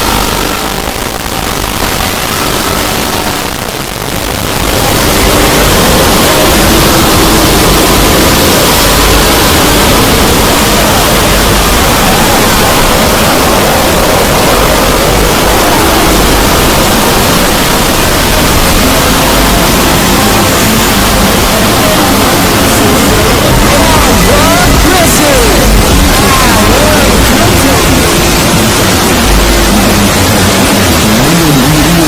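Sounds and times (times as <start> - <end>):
sped-up soundtrack hiss: 0.0 - 32.0.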